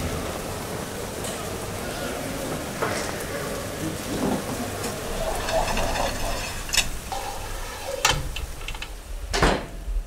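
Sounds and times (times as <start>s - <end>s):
faint murmur of voices: 0.0s - 8.1s
steady hissing noise: 0.0s - 10.0s.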